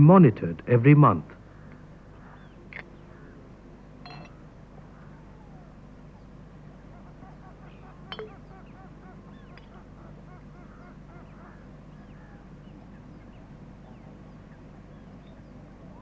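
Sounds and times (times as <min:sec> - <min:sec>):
steady low hum: 0:00.0 - 0:16.0
waterbirds chattering calls: 0:01.4 - 0:16.0.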